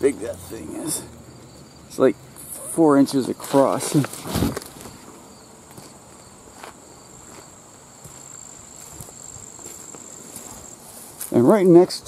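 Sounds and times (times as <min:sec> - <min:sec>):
high-pitched insect trill: 0:00.1 - 0:04.0, 0:04.8 - 0:11.1.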